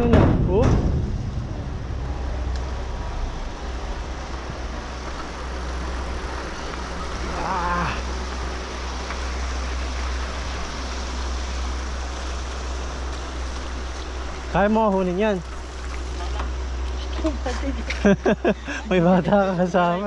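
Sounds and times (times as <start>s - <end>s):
wind rumbling on microphone: 0.0s - 17.1s
bicycle trail noise: 0.0s - 20.0s.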